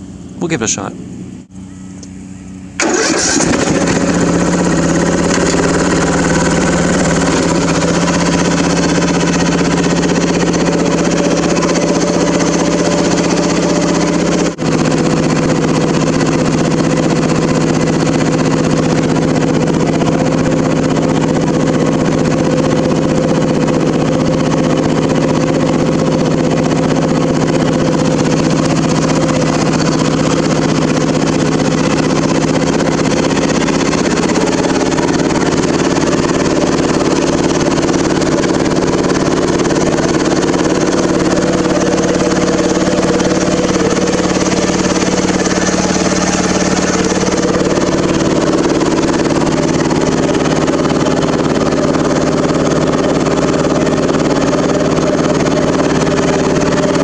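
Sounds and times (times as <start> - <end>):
riding mower engine running: 0.0 - 57.0.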